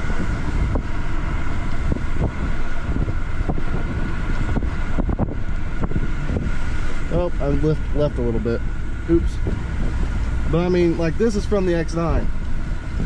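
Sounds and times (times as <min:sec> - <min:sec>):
pickup truck driving slowly: 0:00.0 - 0:13.0
wind buffeting microphone: 0:00.0 - 0:13.0.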